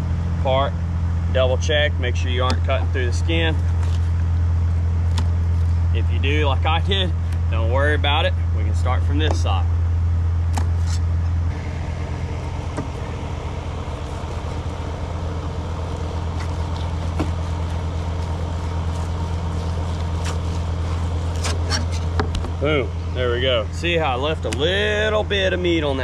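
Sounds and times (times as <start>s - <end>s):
low mechanical drone: 0.0s - 26.0s.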